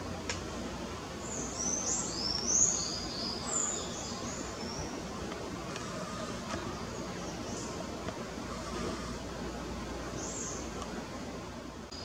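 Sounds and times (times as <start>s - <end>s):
outdoor background noise: 0.0s - 12.0s
birds chirping: 0.8s - 11.2s.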